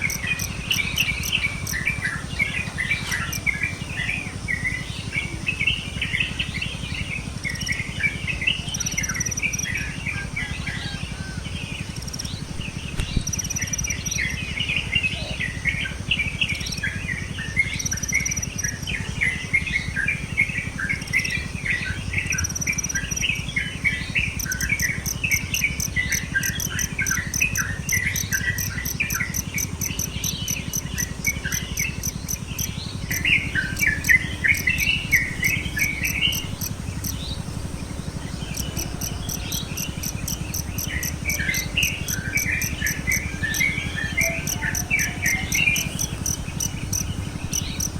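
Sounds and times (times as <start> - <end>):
fast high pulsing: 0.0 - 10.1, 11.7 - 14.7, 16.2 - 47.9
small birds chirping: 0.0 - 11.0, 11.9 - 47.9.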